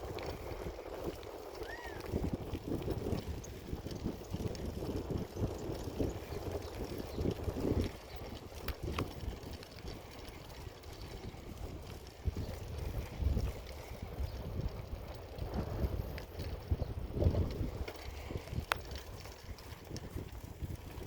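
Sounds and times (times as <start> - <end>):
bicycle rattling over rough ground: 0.0 - 21.0
wind buffeting microphone: 0.0 - 21.0.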